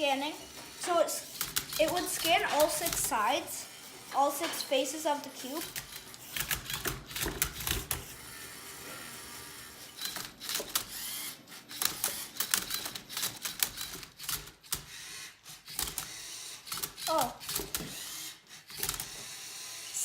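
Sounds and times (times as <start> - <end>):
robot motors whirring: 0.2 - 20.0.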